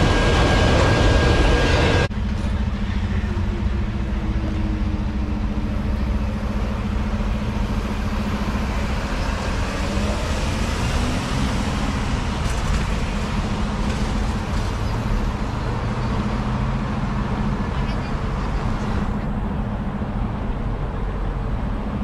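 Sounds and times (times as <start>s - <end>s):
vehicles driving across close by: 0.0s - 22.0s.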